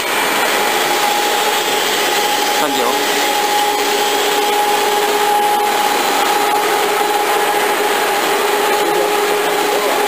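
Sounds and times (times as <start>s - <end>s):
machine whirring with whine: 0.0s - 10.0s.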